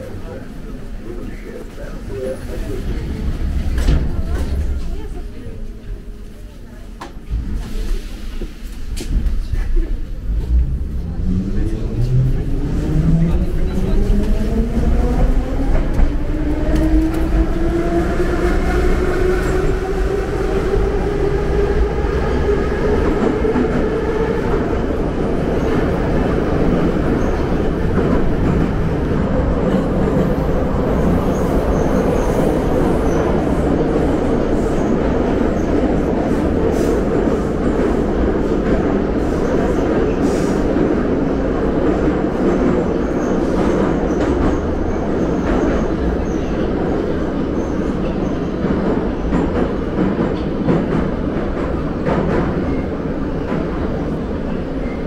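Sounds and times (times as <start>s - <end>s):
train carriage running noise: 0.0s - 55.0s.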